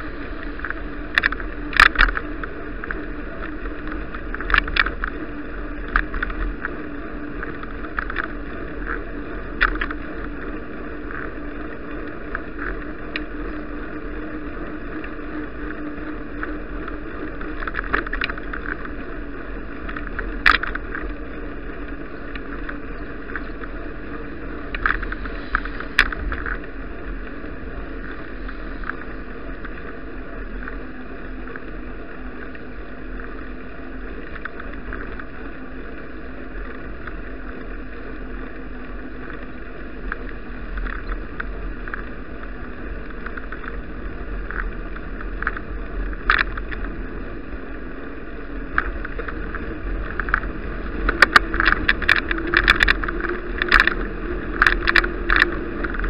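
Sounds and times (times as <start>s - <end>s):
bicycle rattling clicks: 0.0s - 56.0s
bicycle rolling rumble: 0.0s - 56.0s
wind noise: 0.0s - 56.0s.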